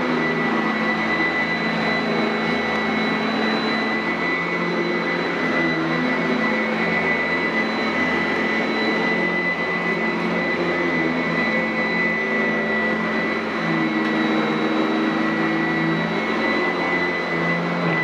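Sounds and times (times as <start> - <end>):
upright vacuum cleaner running: 0.0 - 18.0.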